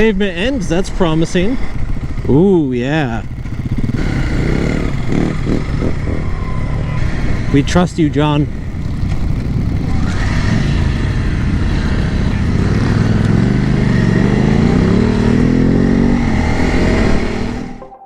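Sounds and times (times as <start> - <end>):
motorcycle engine accelerating: 0.0 - 17.8
wind and road noise: 0.0 - 17.8.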